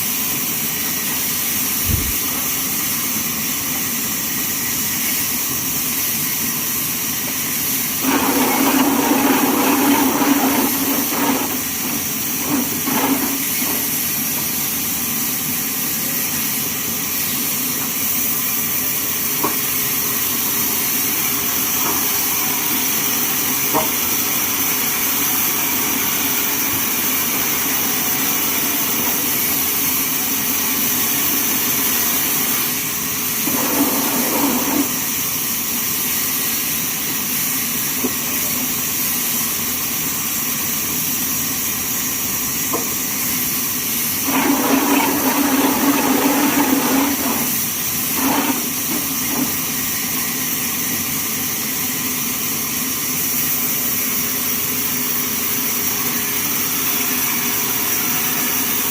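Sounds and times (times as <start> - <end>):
sawmill machinery running: 0.0 - 58.9.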